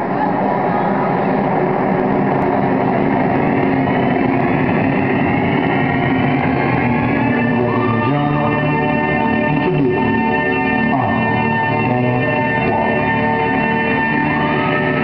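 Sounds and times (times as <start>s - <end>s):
crowd cheering and chattering: 0.0s - 15.0s.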